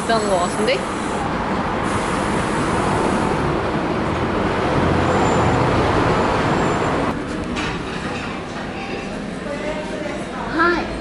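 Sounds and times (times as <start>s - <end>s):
street traffic rushing: 0.0s - 11.0s.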